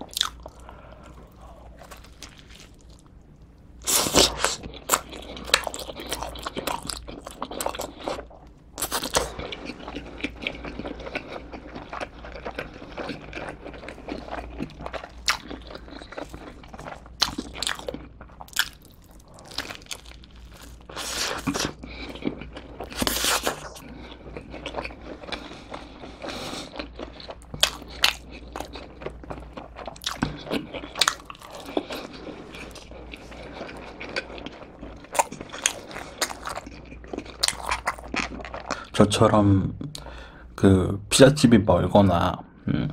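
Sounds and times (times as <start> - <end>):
person chewing pizza: 0.0 - 39.0.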